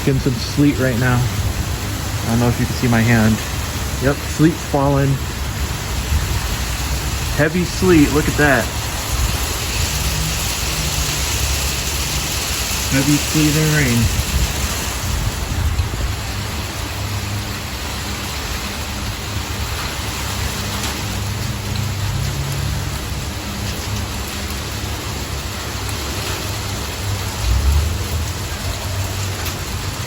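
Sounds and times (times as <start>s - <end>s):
sleet and rain falling: 0.0s - 30.0s.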